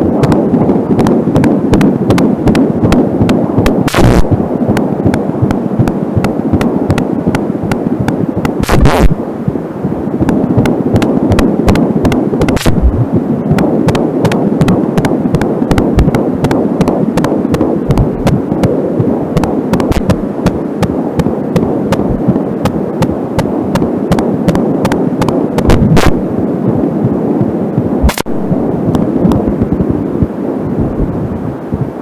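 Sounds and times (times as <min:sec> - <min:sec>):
fetal heartbeat on doppler: 0:00.0 - 0:32.0
static crackle: 0:00.0 - 0:32.0
steady loud hiss: 0:00.0 - 0:32.0.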